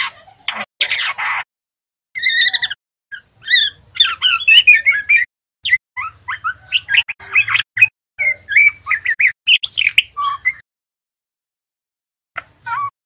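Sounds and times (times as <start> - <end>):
bird chirping and twittering: 0.0 - 1.5, 2.2 - 10.6, 12.4 - 13.0.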